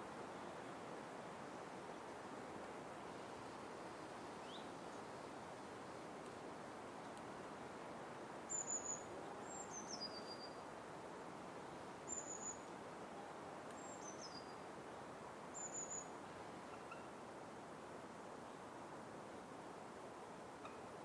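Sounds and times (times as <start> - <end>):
soft background hiss: 0.0 - 21.0.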